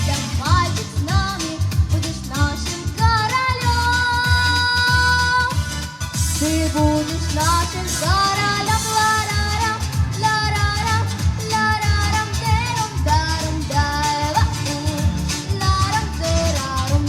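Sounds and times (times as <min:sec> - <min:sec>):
young female voice singing: 0:00.0 - 0:05.6, 0:06.3 - 0:17.0
pop backing track: 0:00.0 - 0:17.0.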